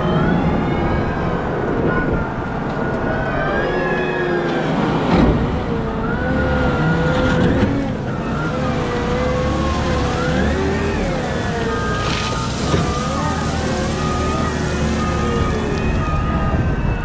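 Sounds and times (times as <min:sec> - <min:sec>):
wheel loader engine whine: 0:00.0 - 0:17.0.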